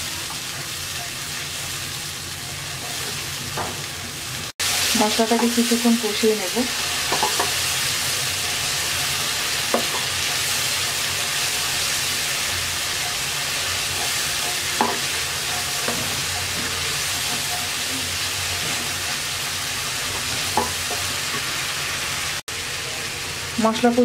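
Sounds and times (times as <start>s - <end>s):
masala sizzling in oil: 0.0s - 24.0s.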